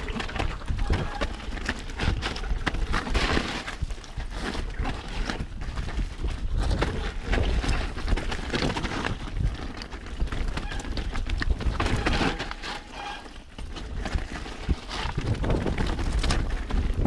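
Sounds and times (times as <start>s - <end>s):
bike clattering over roots: 0.0s - 17.0s
tyres on dirt trail: 0.0s - 17.0s
wind rumble on microphone: 0.0s - 17.0s.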